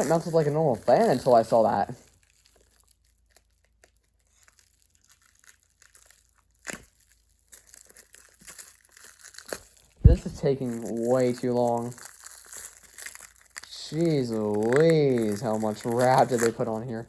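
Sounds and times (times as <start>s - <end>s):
plastic wrap crinkling and tearing: 0.0s - 17.0s.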